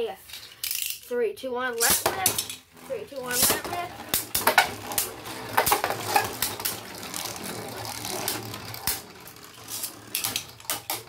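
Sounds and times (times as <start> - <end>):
spinning tops whirring: 1.7 - 11.0
spinning tops clashing clicks: 1.8 - 11.0.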